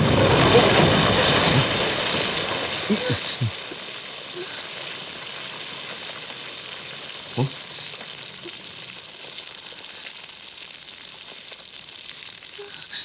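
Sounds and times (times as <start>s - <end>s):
steady crackling hiss: 0.0s - 13.0s.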